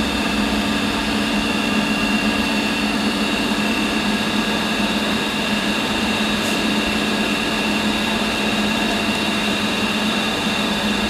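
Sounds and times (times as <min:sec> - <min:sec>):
pump humming with high whine: 0:00.0 - 0:11.0.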